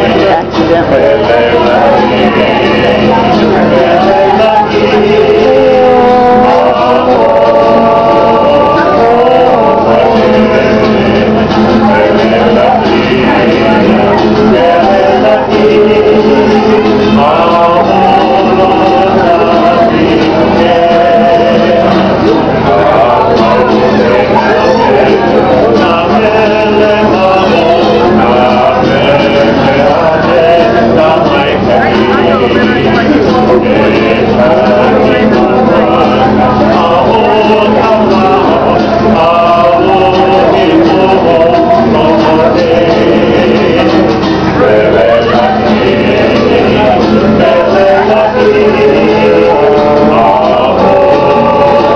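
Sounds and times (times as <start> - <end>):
men and women singing together: 0.0 - 51.9
ukulele strumming: 0.0 - 51.9.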